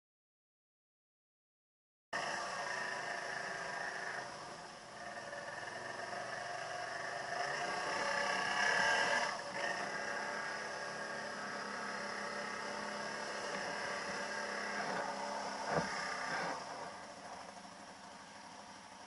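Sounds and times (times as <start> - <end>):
atv engine running: 2.2 - 19.0.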